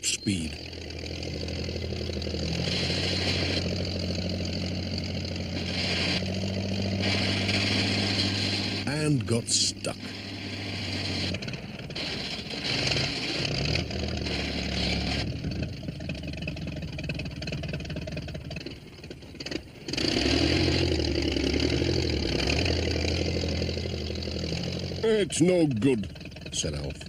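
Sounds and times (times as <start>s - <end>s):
tractor engine revving: 0.0s - 27.0s.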